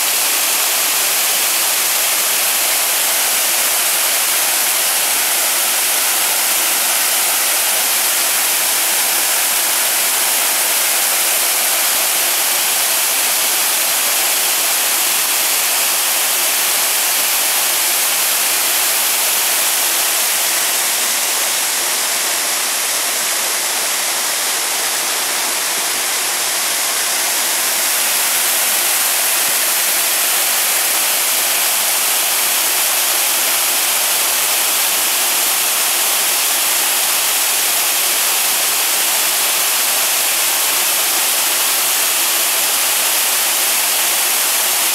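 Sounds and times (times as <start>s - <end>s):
waterfall cascading: 0.0s - 44.9s.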